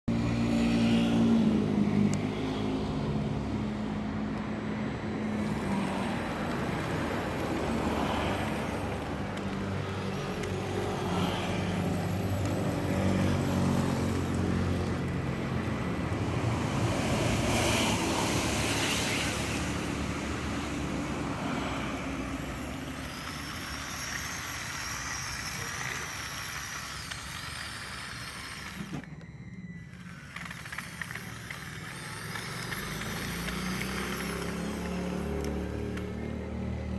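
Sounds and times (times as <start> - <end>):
small motors humming: 4.3 - 36.9.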